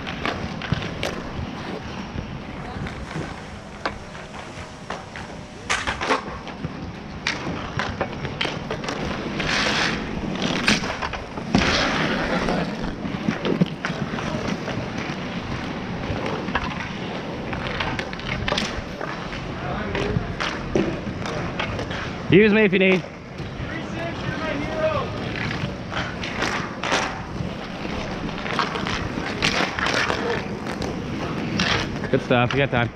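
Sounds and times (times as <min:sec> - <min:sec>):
hockey sticks clacking: 0:00.0 - 0:01.9, 0:02.6 - 0:32.9
skate wheels rolling on asphalt: 0:00.0 - 0:32.9.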